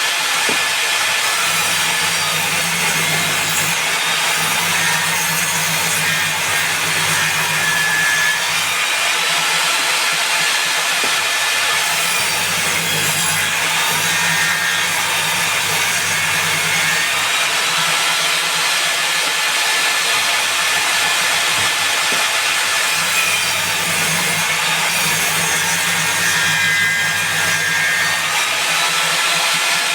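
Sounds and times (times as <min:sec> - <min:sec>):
table saw cutting wood: 0:00.0 - 0:29.9.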